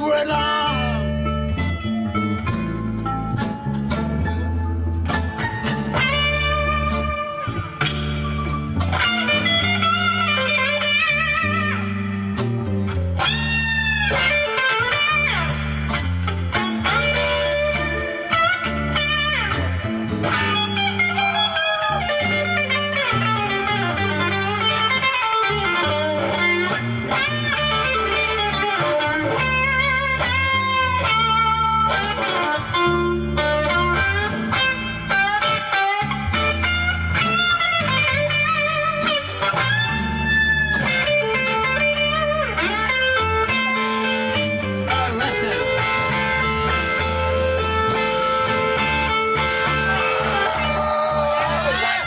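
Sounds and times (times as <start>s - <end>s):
bass line: 0.0s - 52.0s
electric guitar lead: 0.0s - 52.0s.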